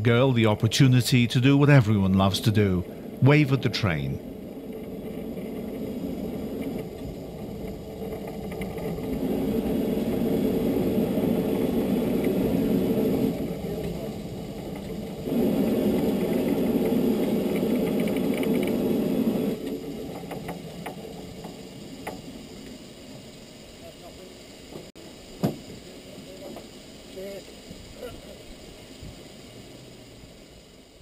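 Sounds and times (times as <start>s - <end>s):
steam locomotive venting steam: 0.0s - 31.0s.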